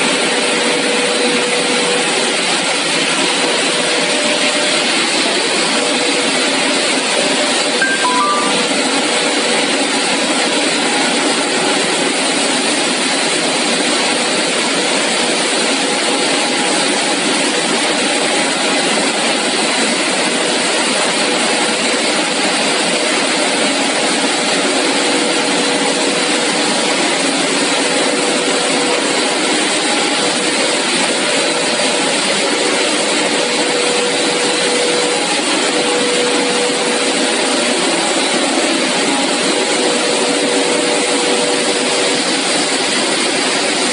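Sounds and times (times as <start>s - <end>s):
loud hissing machine noise: 0.0s - 43.9s.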